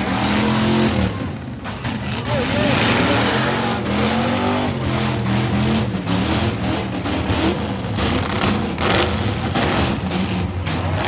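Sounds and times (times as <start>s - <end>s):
car engines revving: 0.0s - 11.0s
loud rough noise: 0.0s - 11.0s.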